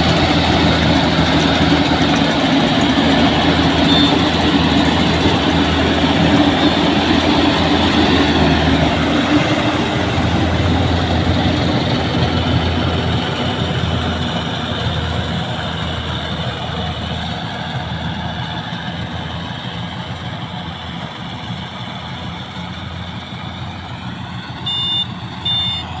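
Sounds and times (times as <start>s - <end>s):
combine harvester engine running: 0.0s - 26.0s.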